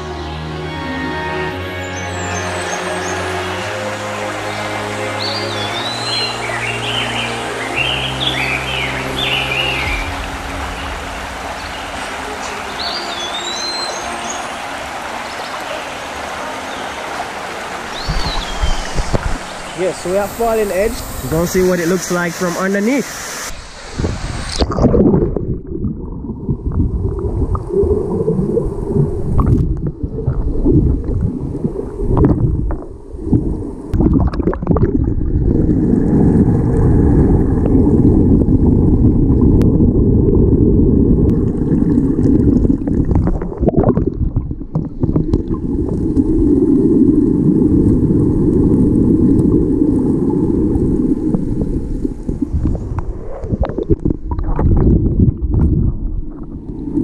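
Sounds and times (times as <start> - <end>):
muffled underwater waterfall rumble: 9.1 - 57.0.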